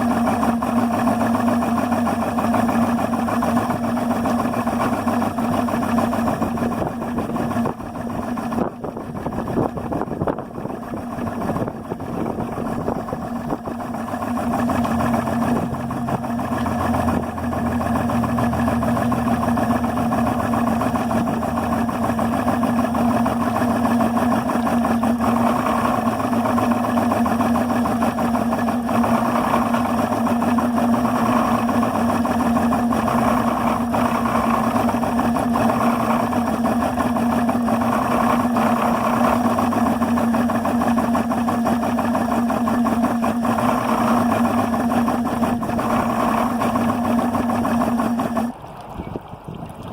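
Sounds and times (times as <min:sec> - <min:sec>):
outboard engine idling roughly: 0:00.0 - 0:49.9.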